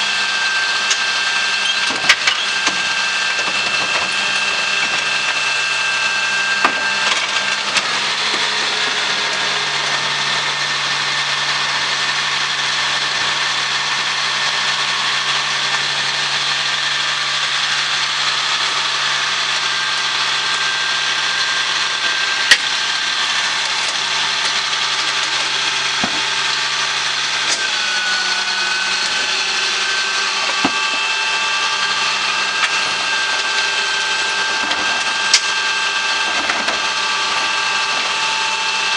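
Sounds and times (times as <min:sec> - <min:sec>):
hydraulic whine: 0:00.0 - 0:38.9
trash truck running: 0:00.0 - 0:38.9.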